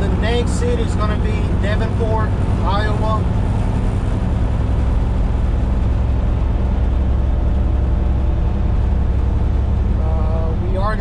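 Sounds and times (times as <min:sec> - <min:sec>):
low diesel engine drone: 0:00.0 - 0:11.0
road and tyre noise: 0:00.0 - 0:11.0.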